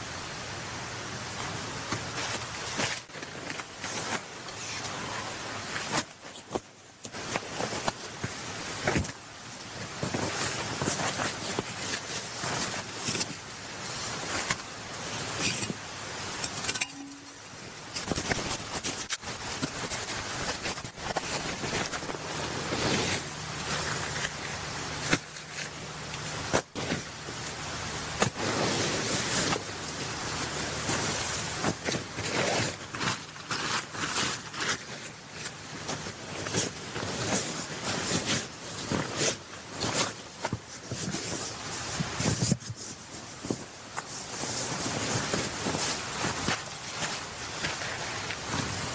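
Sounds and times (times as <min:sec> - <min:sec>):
nylon fabric rustling: 0:01.8 - 0:48.9.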